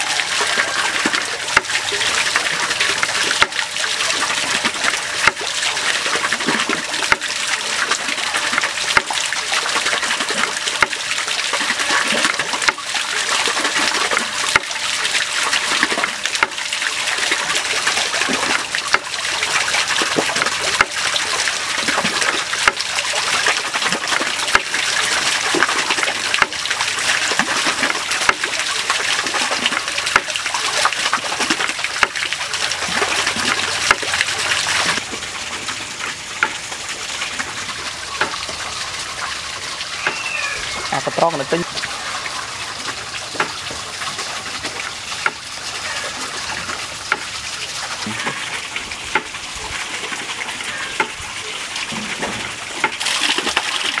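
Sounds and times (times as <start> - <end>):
water boiling in a pan: 0.0 - 54.0.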